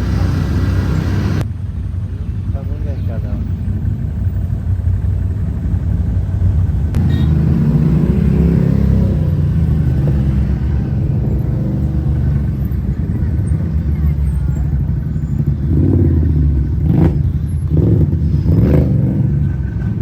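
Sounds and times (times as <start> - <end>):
off-road vehicle engine rumble: 0.0 - 20.0.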